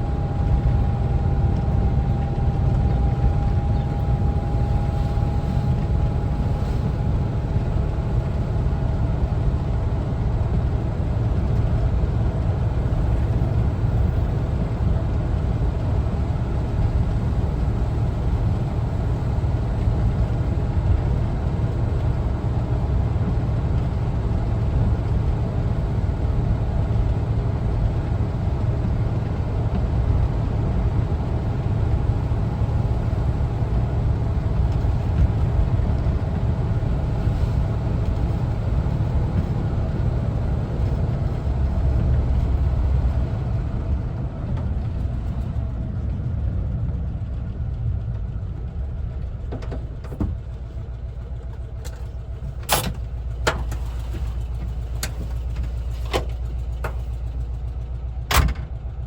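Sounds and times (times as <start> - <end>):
road noise: 0.0 - 58.2
van engine running: 0.0 - 59.0.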